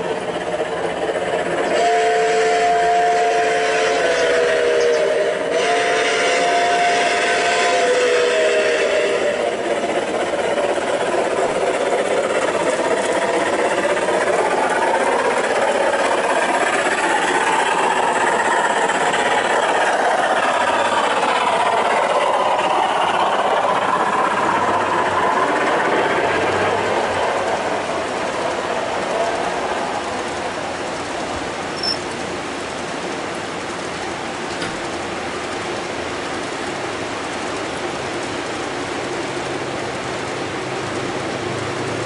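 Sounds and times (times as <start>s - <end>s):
model train rumbling on metal track: 0.0s - 42.0s.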